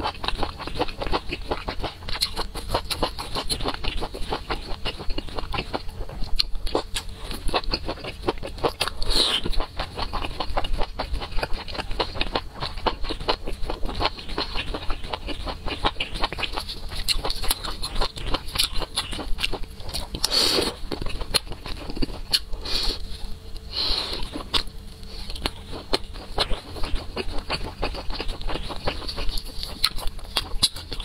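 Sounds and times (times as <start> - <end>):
wet chewing: 0.0 - 31.0.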